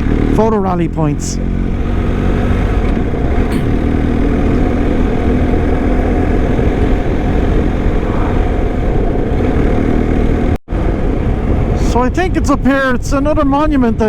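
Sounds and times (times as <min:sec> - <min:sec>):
motorcycle engine running: 0:00.0 - 0:11.8
wind rumble on microphone: 0:01.4 - 0:14.0.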